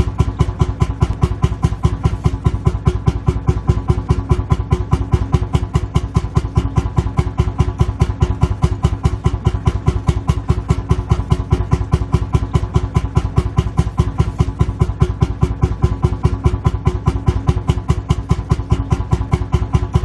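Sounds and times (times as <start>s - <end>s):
tractor engine idling with knock: 0.0s - 20.0s.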